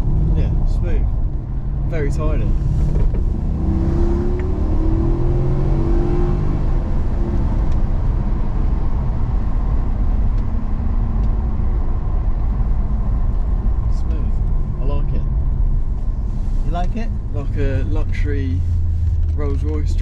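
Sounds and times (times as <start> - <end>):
car engine accelerating: 0.0 - 20.0
tyre road rumble: 0.0 - 20.0.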